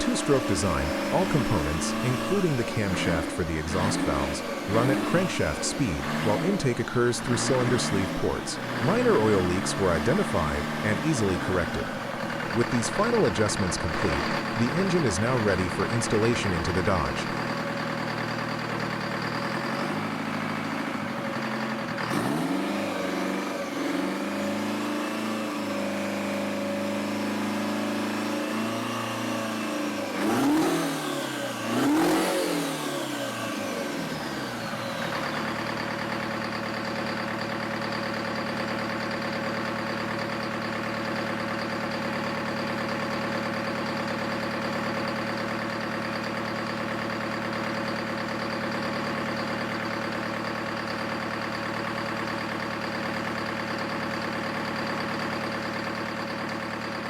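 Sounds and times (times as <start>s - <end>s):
diesel engine revving and idling: 0.0s - 57.0s.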